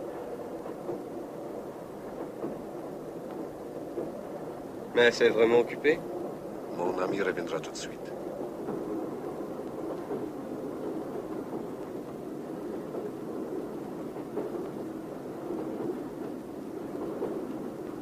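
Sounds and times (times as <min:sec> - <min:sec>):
train rumbling from inside: 0:00.0 - 0:18.0.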